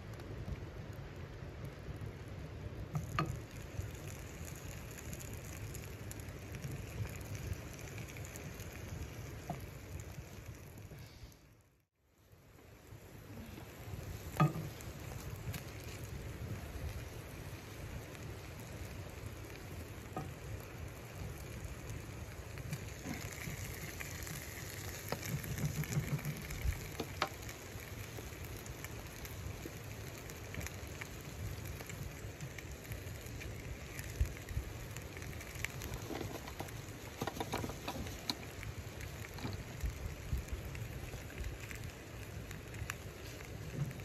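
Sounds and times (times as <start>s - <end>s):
fat popping and crackling: 0.0s - 11.1s, 12.5s - 44.0s
chicken sizzling in a frying pan: 0.0s - 11.5s, 12.2s - 44.0s.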